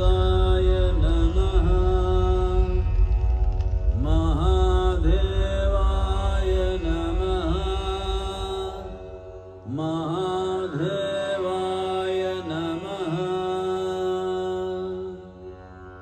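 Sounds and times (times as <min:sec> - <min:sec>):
steady drone: 0:00.0 - 0:15.7
person chanting: 0:00.0 - 0:16.0.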